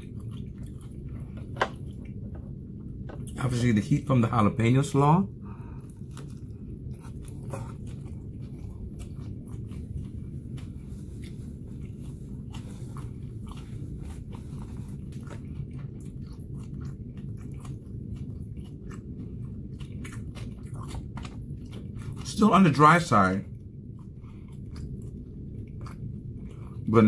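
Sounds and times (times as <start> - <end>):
person chewing: 0.0 - 3.4, 5.5 - 22.4, 23.4 - 27.0
low hum: 0.0 - 27.0.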